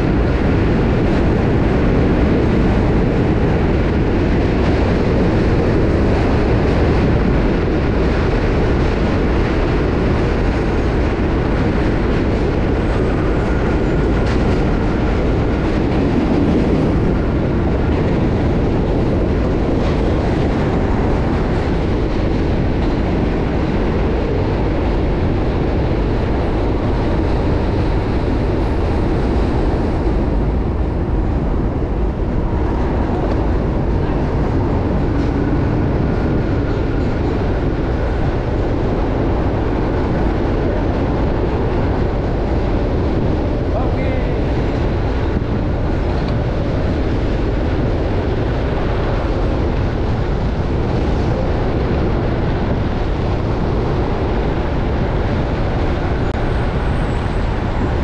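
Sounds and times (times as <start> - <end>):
rail clatter: 0.0 - 58.0
subway train rumble: 0.0 - 58.0.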